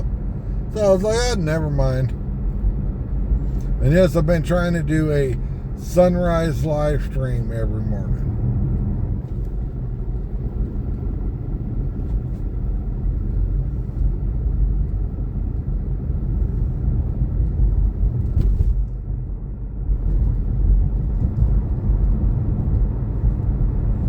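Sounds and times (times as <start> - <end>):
car engine and tyres rumble: 0.0 - 24.0.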